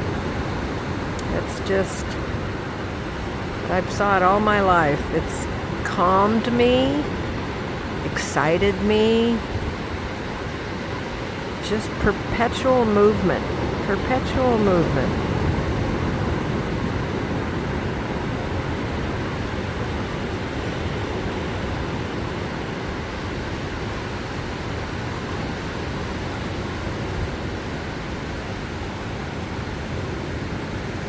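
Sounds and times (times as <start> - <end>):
ocean waves breaking: 0.0 - 31.0.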